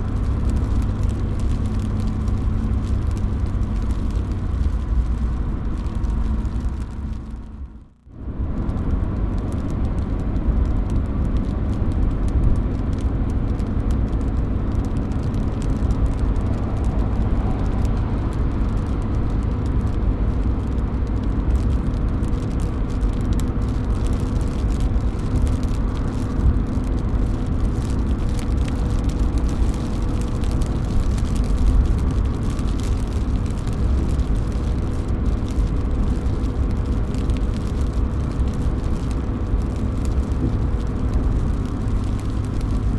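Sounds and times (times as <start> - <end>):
rain running off a roof: 0.0 - 42.9.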